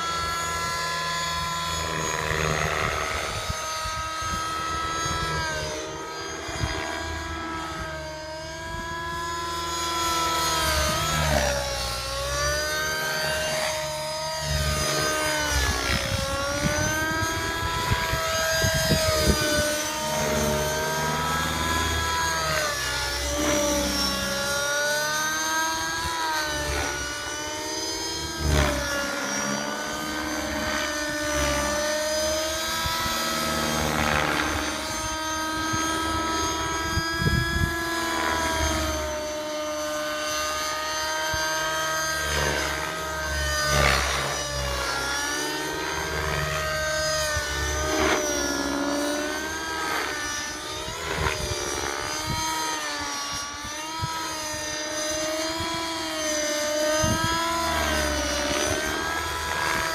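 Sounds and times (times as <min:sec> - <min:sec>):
model helicopter engine whine: 0:00.0 - 0:59.9.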